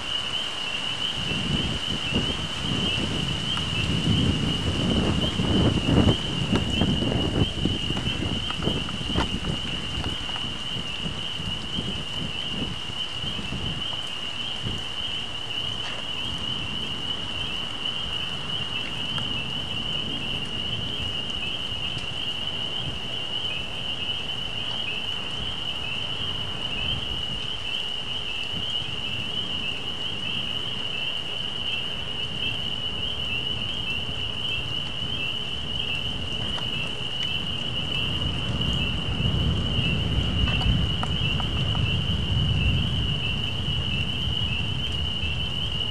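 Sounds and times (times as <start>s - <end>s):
distant thunder rumble: 0.0s - 31.1s, 31.7s - 45.9s
rain falling on leaves: 0.0s - 45.9s.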